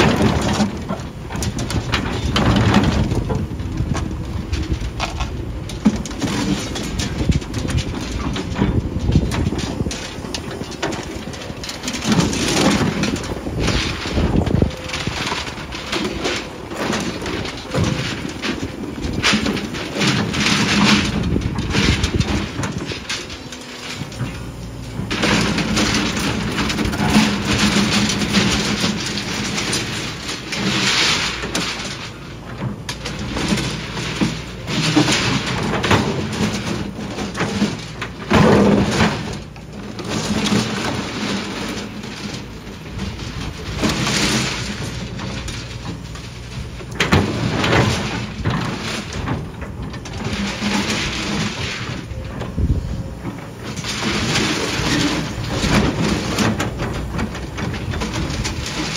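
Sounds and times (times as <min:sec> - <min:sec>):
excavator diesel engine: 0:00.0 - 0:58.9
bucket scraping through concrete: 0:04.5 - 0:58.9.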